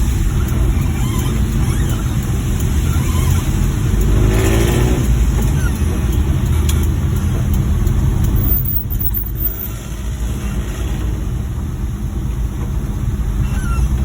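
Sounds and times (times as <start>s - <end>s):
van engine and road noise: 0.0s - 14.0s.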